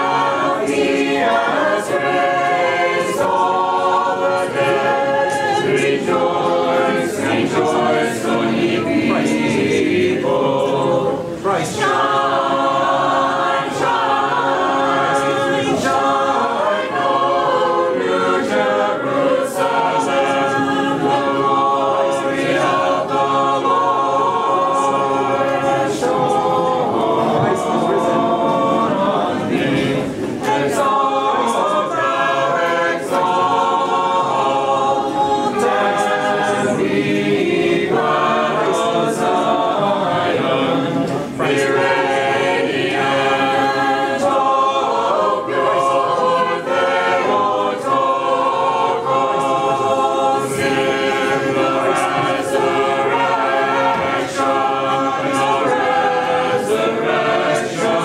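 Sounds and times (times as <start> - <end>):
choir singing a hymn unaccompanied: 0.0 - 58.0.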